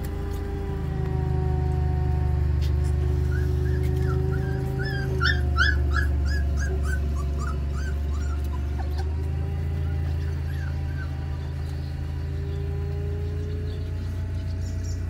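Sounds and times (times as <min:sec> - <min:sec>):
steady low hum: 0:00.0 - 0:15.0
puppies whimpering and yelping: 0:02.7 - 0:15.0.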